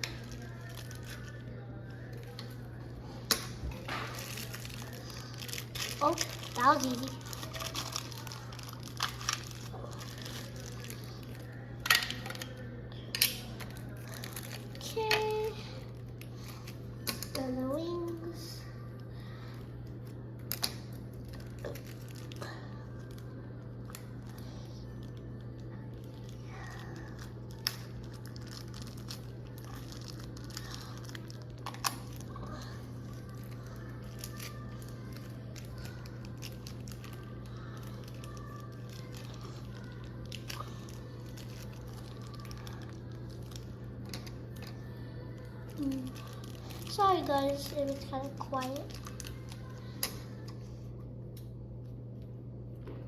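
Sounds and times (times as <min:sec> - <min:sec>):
plastic bag crinkling: 0:00.0 - 0:12.8, 0:13.4 - 0:16.8, 0:20.4 - 0:50.5
steady low hum: 0:00.0 - 0:53.0.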